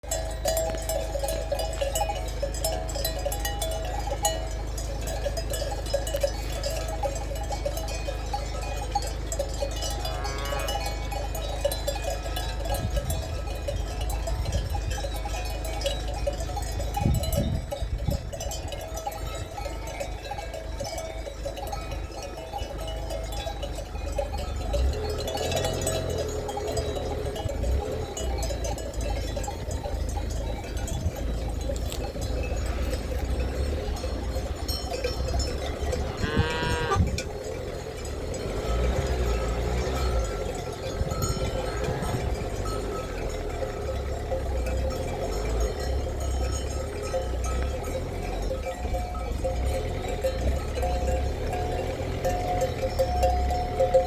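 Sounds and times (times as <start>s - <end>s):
livestock bells clinking: 0.0s - 54.0s.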